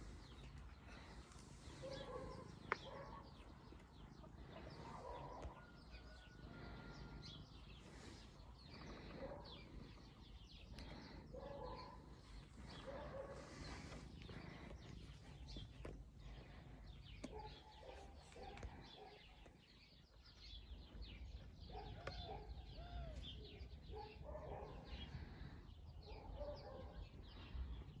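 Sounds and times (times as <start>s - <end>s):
faint bird calls and chirps: 0.0s - 28.0s.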